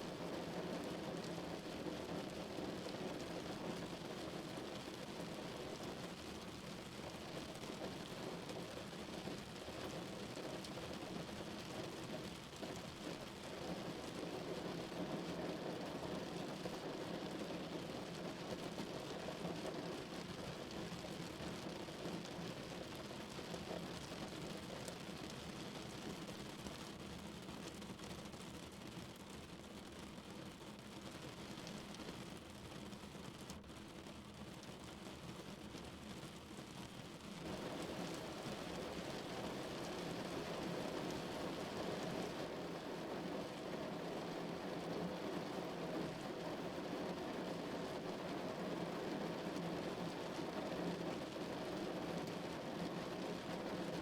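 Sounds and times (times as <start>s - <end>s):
rain drumming on a car roof: 0.1s - 54.0s.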